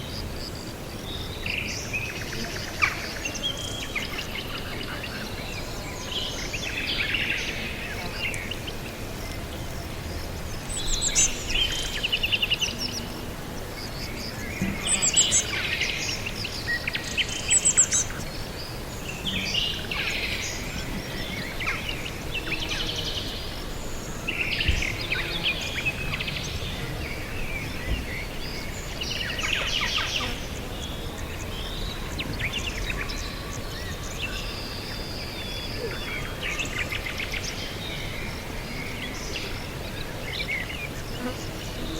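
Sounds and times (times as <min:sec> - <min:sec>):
background hiss: 0:00.0 - 0:41.9.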